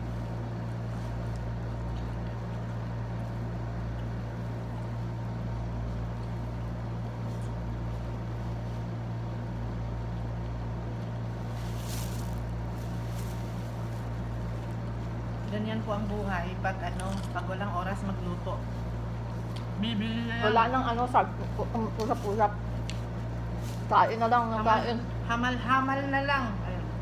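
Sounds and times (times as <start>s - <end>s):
air conditioner humming: 0.0s - 27.0s.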